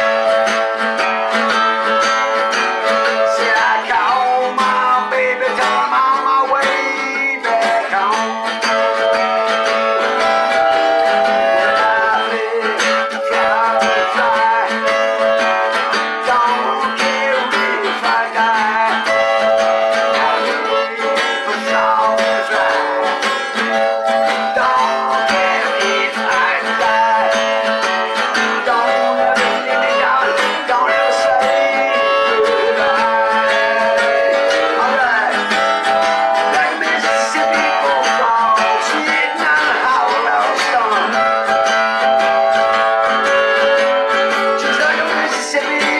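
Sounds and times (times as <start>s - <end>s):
harmonica bent notes: 0.0s - 45.9s
strummed acoustic guitar: 0.0s - 45.9s.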